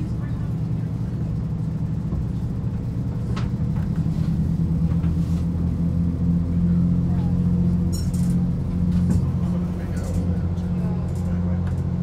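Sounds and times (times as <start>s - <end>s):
low engine drone: 0.0s - 12.0s
wheels rumbling on rails: 0.0s - 12.0s.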